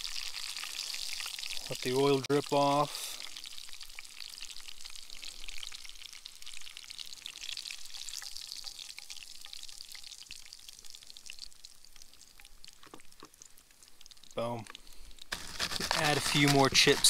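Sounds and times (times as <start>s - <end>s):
hot oil sizzling in a frying pan: 0.0s - 17.0s.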